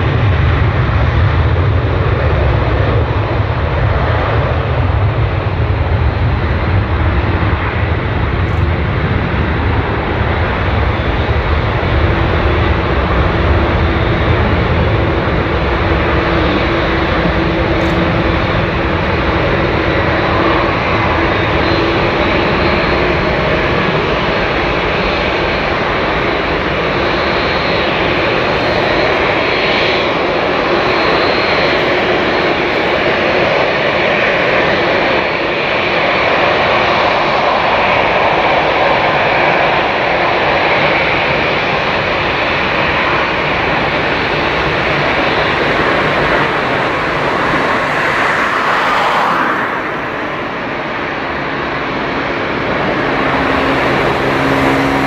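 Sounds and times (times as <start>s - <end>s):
jet engine rumble and hiss: 0.0s - 55.0s.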